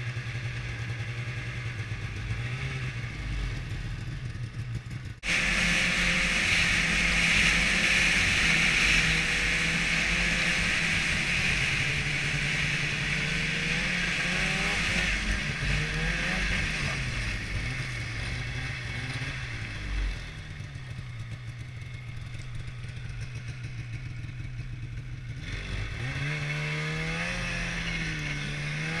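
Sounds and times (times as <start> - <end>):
snowmobile engine revving: 0.0 - 29.0.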